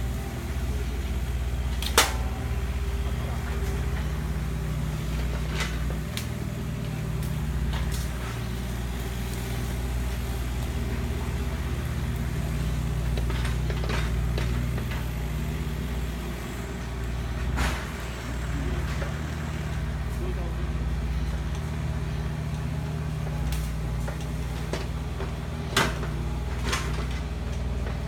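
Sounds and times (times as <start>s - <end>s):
large engine humming: 0.0s - 28.0s.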